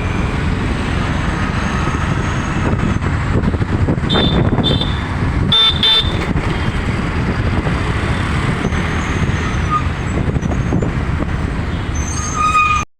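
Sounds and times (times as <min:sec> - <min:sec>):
road traffic rumble: 0:00.0 - 0:12.9.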